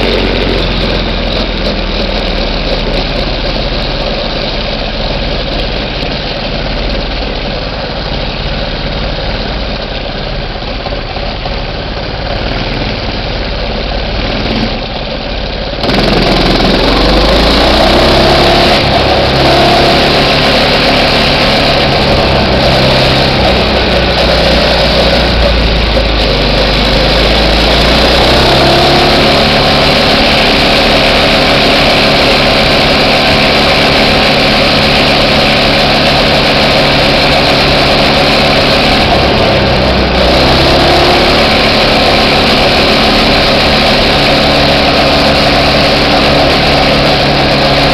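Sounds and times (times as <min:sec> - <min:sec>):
minibike engine running: 0:00.0 - 0:47.9.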